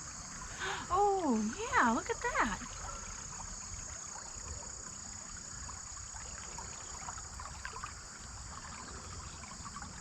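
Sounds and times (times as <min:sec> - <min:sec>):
creek water babbling: 0:00.0 - 0:10.0
crickets droning: 0:00.0 - 0:10.0.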